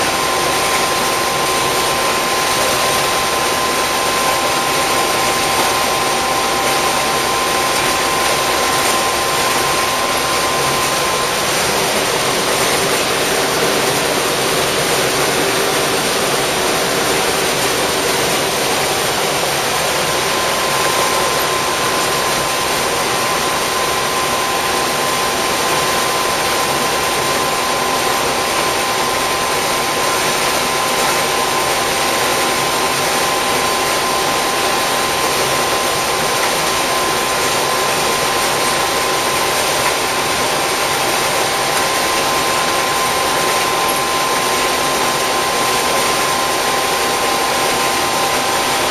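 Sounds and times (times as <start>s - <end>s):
combine harvester drone: 0.0s - 48.9s
faint high whine: 0.0s - 48.9s.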